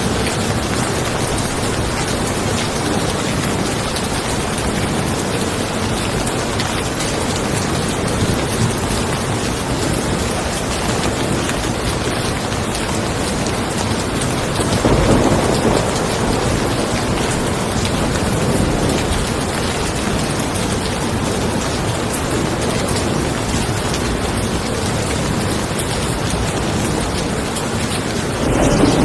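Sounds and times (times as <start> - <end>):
rain pattering on a car: 0.0 - 29.0
thunder rumbling: 0.0 - 29.0.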